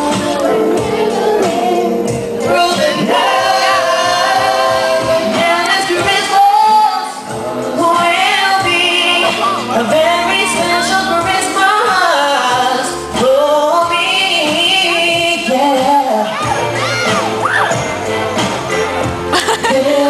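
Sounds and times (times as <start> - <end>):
pop song over sound system: 0.0 - 20.0.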